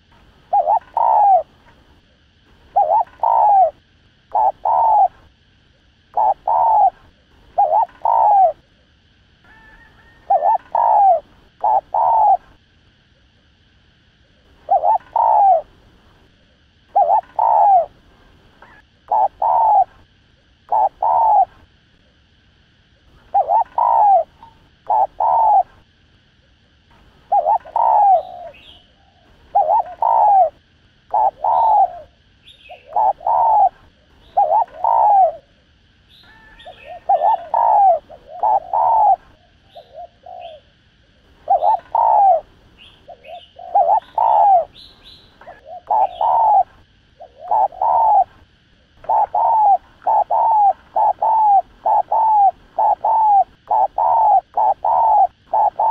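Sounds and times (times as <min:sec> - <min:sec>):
dove cooing: 0:00.0 - 0:13.4, 0:14.2 - 0:18.0, 0:18.6 - 0:22.2, 0:23.0 - 0:25.9, 0:26.5 - 0:55.9.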